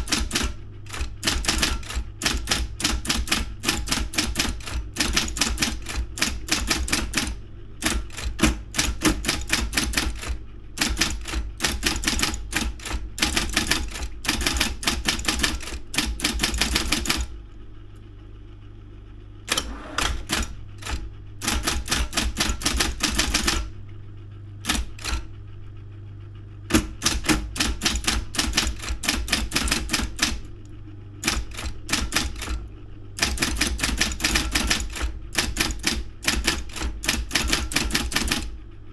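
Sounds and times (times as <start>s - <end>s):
electric typewriter keystrikes: 0.0s - 17.4s, 19.5s - 23.8s, 24.6s - 25.3s, 26.7s - 38.6s
typewriter motor hum: 0.0s - 38.9s.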